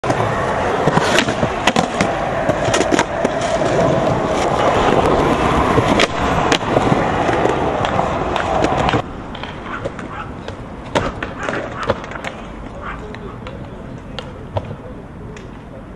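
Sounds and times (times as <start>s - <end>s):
skateboard clacks: 0.0s - 15.9s
skateboard wheels rolling on concrete: 0.0s - 15.9s.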